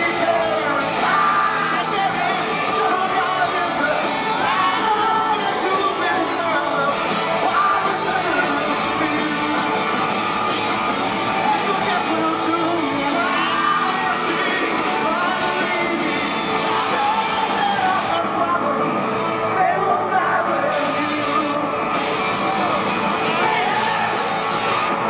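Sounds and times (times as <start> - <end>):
live rock band with singer: 0.0 - 25.0.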